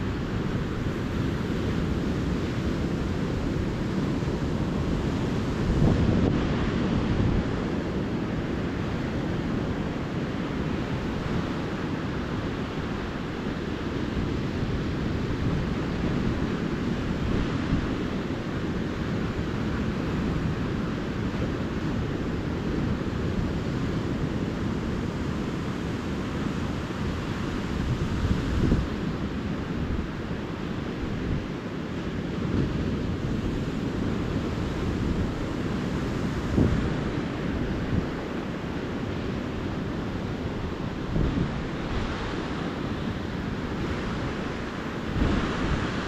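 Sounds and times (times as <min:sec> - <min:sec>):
ocean surf washing onto beach: 0:00.0 - 0:46.0
wind rumbling on microphone: 0:00.0 - 0:46.0.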